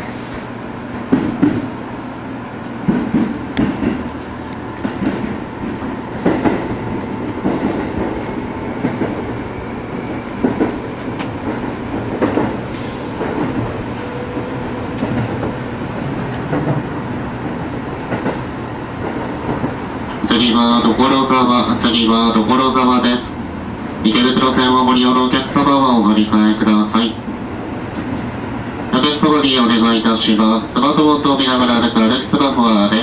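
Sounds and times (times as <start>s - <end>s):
train running rumble: 0.0s - 33.0s.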